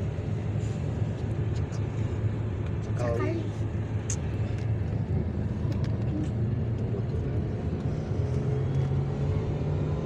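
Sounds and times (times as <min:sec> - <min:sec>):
car engine hum: 0:00.0 - 0:10.0
tyres on road: 0:00.0 - 0:10.0.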